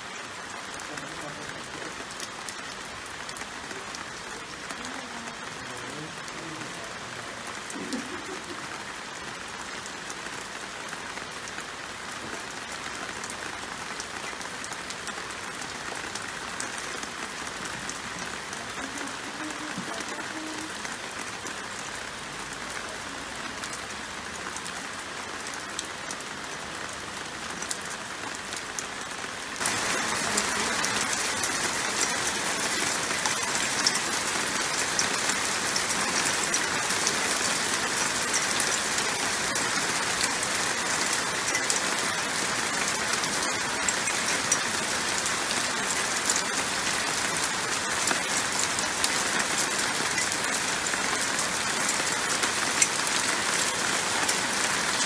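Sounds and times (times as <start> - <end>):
heavy rain pouring: 0.0 - 55.0
raindrops ticking: 0.0 - 55.0.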